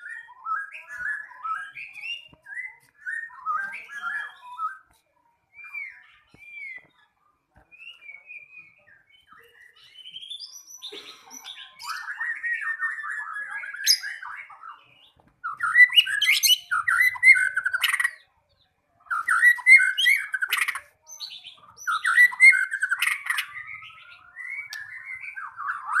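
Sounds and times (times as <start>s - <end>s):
bird singing whistles and trills: 0.0s - 18.3s, 19.1s - 26.0s.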